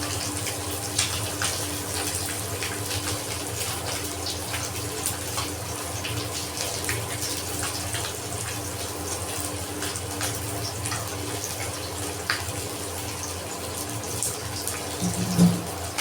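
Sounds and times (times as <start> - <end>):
oil sizzling in a pan: 0.0 - 16.0.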